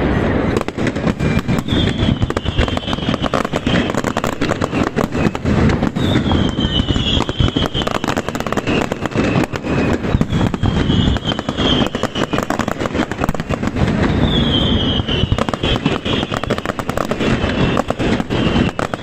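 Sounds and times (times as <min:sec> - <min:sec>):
fireworks bangs and crackles: 0:00.0 - 0:19.0
whistling fireworks: 0:00.0 - 0:19.0.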